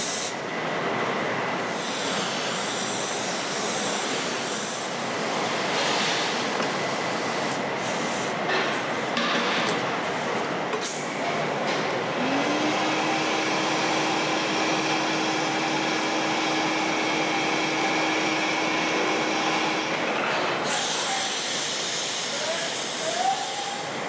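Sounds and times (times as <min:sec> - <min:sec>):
furnaces and fans rushing: 0:00.0 - 0:24.0.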